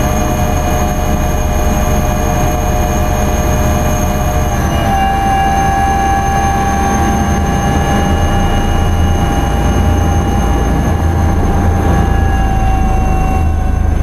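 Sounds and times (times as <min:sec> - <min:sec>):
helicopter engine whine: 0:00.0 - 0:14.0
low rotor rumble: 0:00.0 - 0:14.0.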